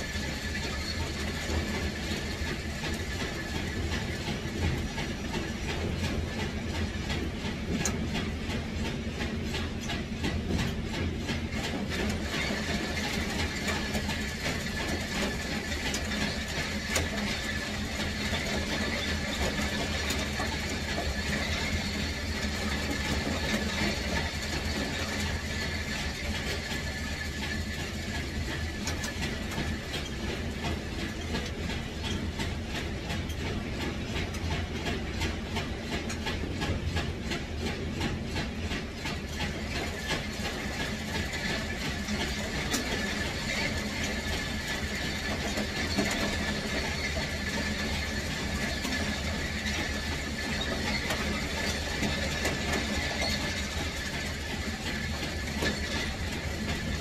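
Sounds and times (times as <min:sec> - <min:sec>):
low machinery hum: 0:00.0 - 0:57.0
rattle of rapid clicks: 0:00.0 - 0:57.0.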